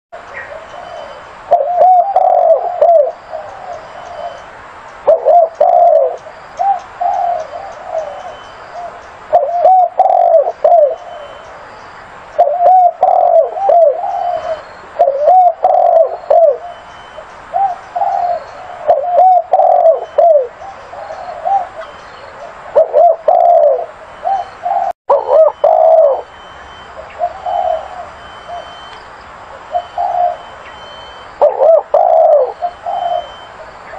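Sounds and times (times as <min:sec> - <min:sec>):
dove cooing: 0:00.3 - 0:11.5, 0:12.4 - 0:33.9.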